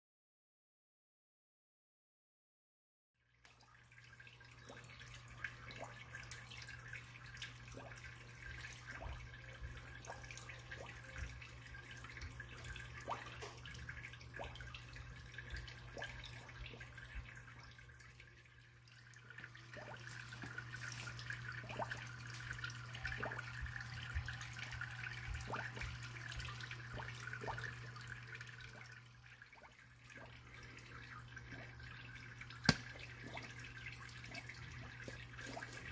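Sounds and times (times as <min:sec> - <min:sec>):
water drips: 0:03.2 - 0:35.9
water splashing and trickling: 0:03.2 - 0:35.9.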